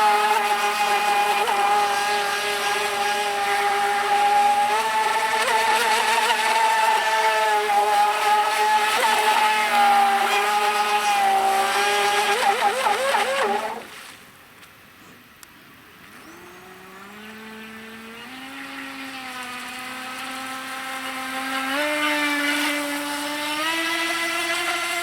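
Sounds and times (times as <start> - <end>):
electric boat motor whining: 0.0 - 14.2, 15.9 - 25.0.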